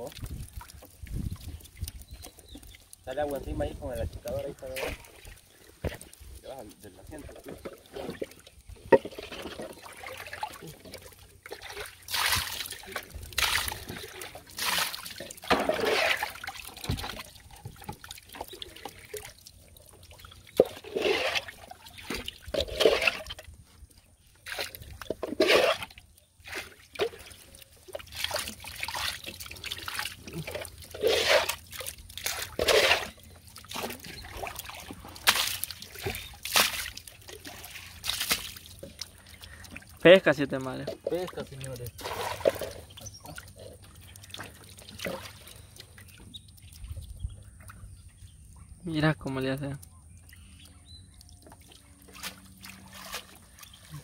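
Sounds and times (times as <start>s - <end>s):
water splashing and trickling: 0.0s - 54.0s.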